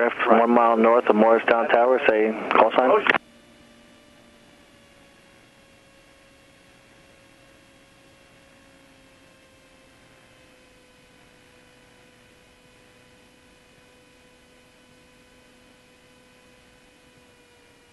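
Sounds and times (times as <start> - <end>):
small plane drone over intercom: 0.0 - 17.9.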